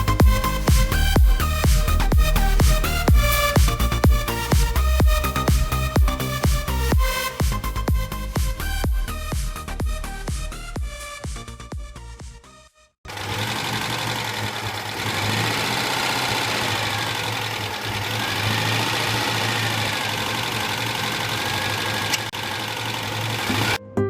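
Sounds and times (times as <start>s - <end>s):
car engine running steadily: 0.0s - 11.9s, 13.1s - 23.8s.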